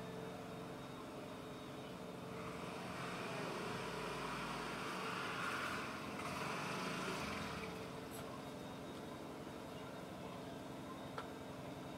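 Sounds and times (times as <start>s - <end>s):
low outdoor hum: 0.0s - 11.9s.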